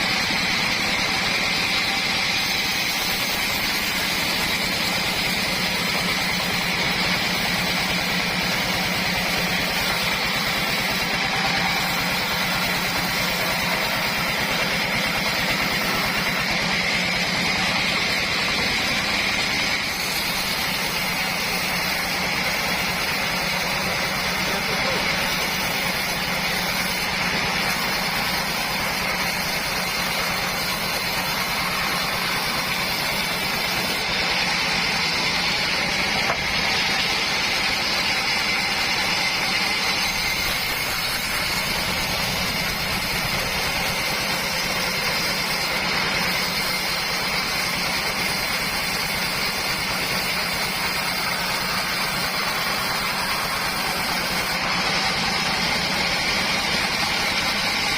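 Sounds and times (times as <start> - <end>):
sawmill running: 0.0 - 57.9.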